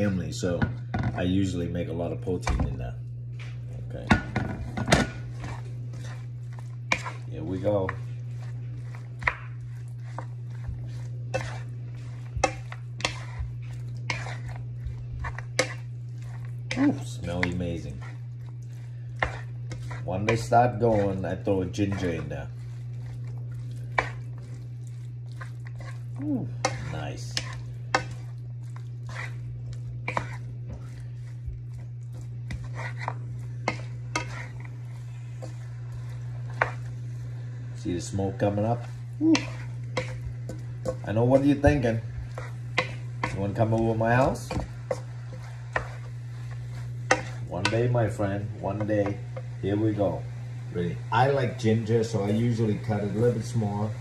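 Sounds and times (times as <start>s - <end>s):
steady low hum: 0.0s - 54.0s
food sizzling in pan: 3.2s - 54.0s
spatula scraping and knocking wok: 3.9s - 54.0s.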